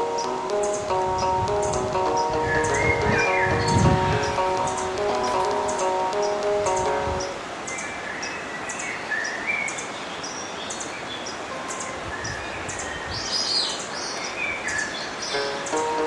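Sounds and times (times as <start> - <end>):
river rushing: 0.0 - 16.0
songbirds chirping: 0.0 - 16.0.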